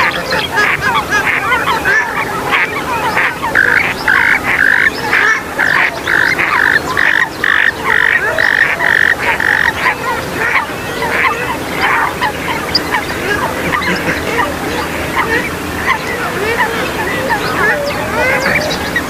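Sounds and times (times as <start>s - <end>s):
harsh bird calls: 0.0s - 19.0s.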